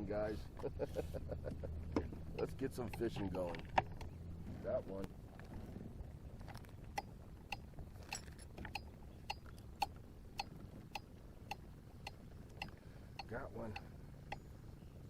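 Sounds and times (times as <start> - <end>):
faint low wind: 0.0 - 15.0.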